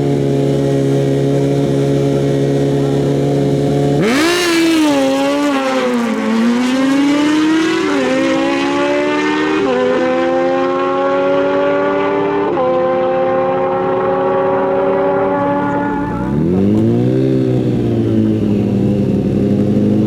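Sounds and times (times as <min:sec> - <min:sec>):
motorcycle engine revving and upshifting: 0:00.0 - 0:20.0.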